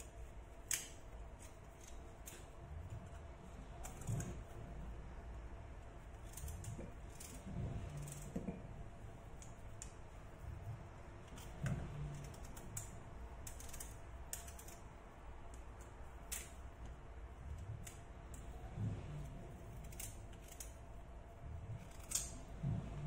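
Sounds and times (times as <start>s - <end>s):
knife scraping pumpkin rind: 0.0s - 4.9s, 6.0s - 15.0s, 17.5s - 23.0s.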